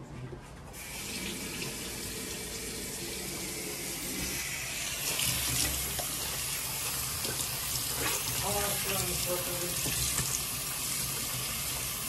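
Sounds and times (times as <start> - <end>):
faucet running into metal sink: 0.8 - 12.0.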